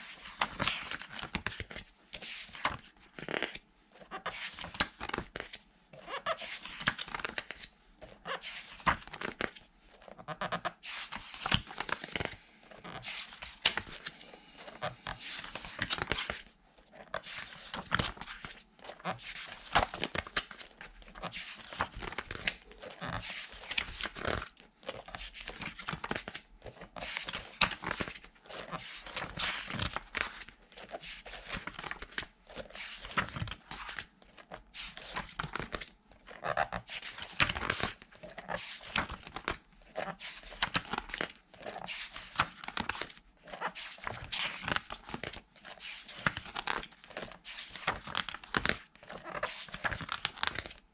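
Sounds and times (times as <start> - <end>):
book pages flipping: 0.0 - 50.8.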